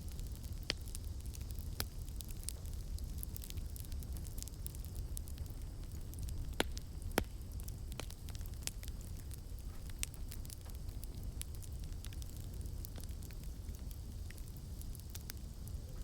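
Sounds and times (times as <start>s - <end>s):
campfire crackling: 0.0s - 16.0s
loud pops from fire: 0.0s - 16.0s.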